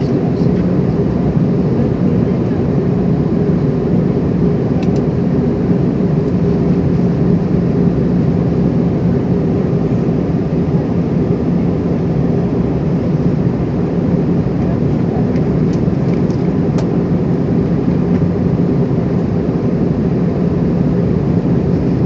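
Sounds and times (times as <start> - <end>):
aircraft cabin engine drone: 0.0 - 22.0.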